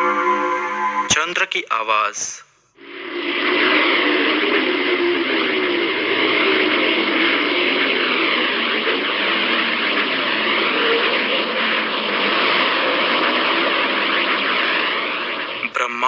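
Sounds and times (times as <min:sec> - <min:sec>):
whistling tones sweeping: 0:00.0 - 0:16.0
steady hiss: 0:01.2 - 0:16.0.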